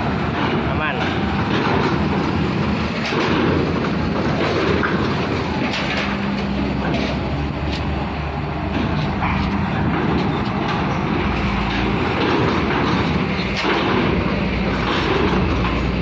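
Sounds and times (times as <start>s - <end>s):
wheels clanking on ramp plates: 0.0s - 7.9s, 8.6s - 16.0s
truck engines rumbling: 0.0s - 16.0s.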